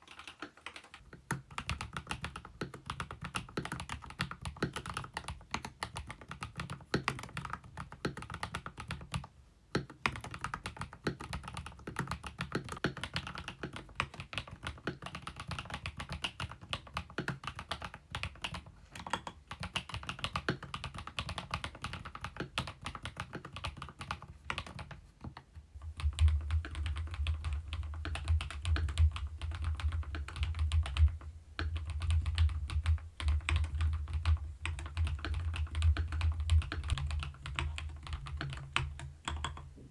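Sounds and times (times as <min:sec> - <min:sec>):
mechanical keyboard typing: 0:00.0 - 0:25.4, 0:26.0 - 0:39.7.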